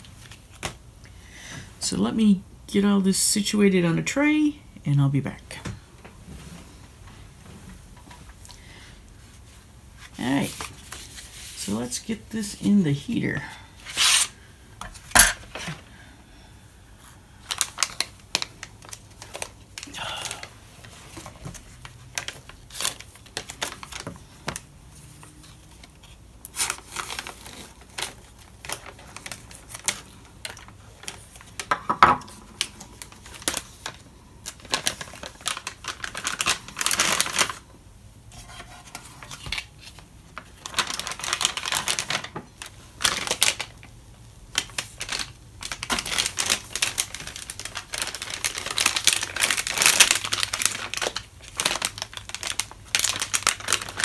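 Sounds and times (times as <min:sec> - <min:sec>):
plastic and foil crinkling: 0:08.0 - 0:16.1, 0:16.7 - 0:54.0.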